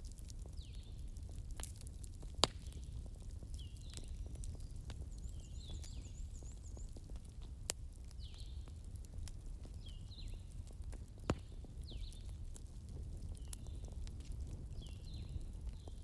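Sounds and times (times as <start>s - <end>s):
campfire rumbling: 0.0s - 16.0s
fire crackling and popping: 0.0s - 16.0s.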